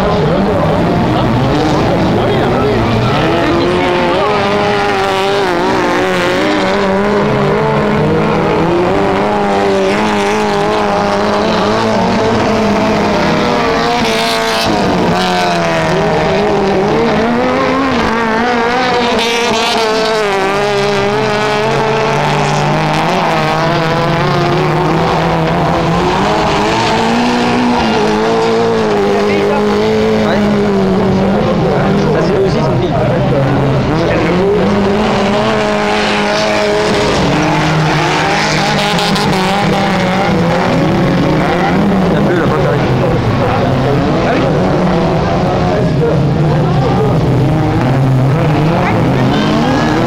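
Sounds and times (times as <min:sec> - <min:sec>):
race car engines revving: 0:00.0 - 0:50.0.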